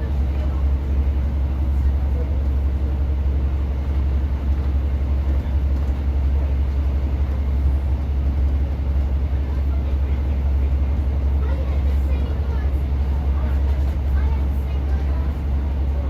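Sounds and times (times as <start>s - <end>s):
diesel train engine hum: 0.0s - 16.0s
train running rumble: 0.0s - 16.0s.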